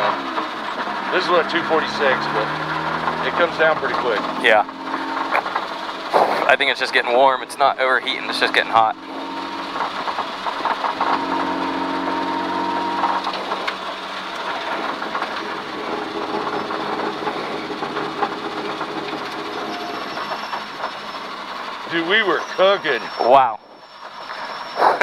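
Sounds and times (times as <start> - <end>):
car engine running: 0.0 - 25.0
road noise hiss: 0.0 - 25.0.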